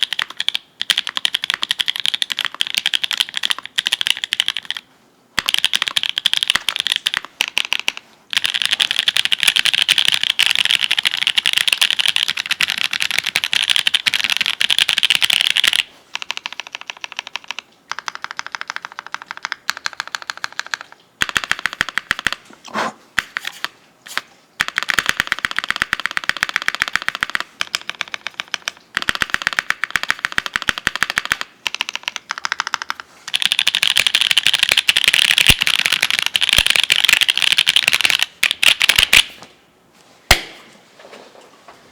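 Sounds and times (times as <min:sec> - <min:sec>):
fast typing on mechanical keyboard: 0:00.0 - 0:04.8, 0:05.4 - 0:22.4, 0:24.6 - 0:39.3.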